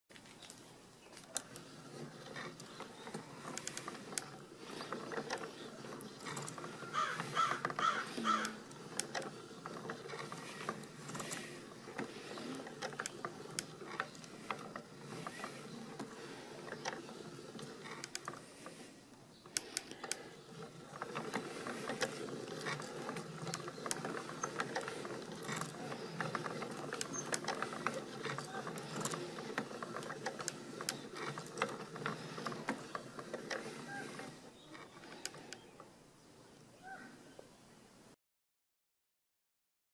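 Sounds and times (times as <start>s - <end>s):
gears clicking and knocking: 1.2s - 18.8s, 19.4s - 35.9s.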